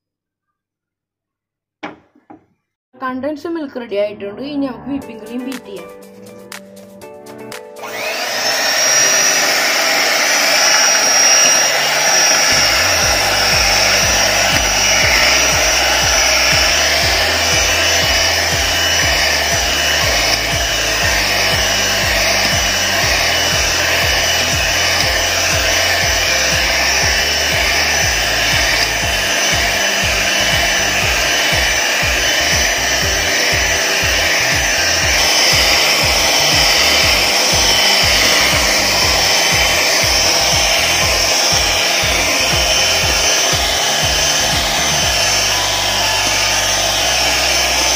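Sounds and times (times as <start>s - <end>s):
electric hand mixer whipping cream: 7.8s - 47.9s.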